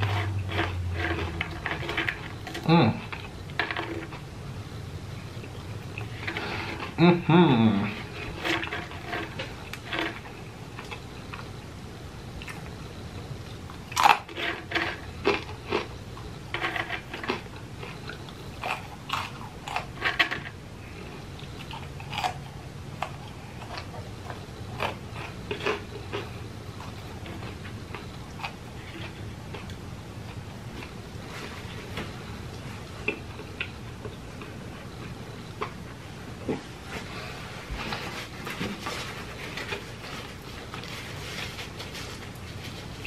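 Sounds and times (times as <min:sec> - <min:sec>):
chewing and crunching food: 0:00.0 - 0:04.4, 0:05.0 - 0:43.0.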